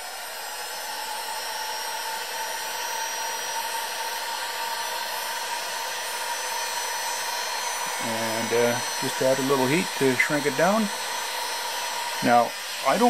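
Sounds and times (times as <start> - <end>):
heat gun blowing with whine: 0.0 - 13.0.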